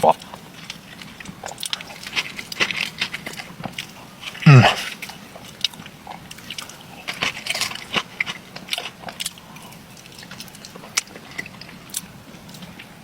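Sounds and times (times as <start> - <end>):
person chewing: 0.0 - 12.6.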